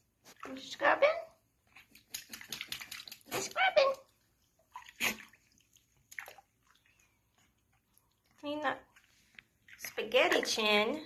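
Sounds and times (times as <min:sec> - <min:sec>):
water splashing in sink: 0:00.0 - 0:11.0.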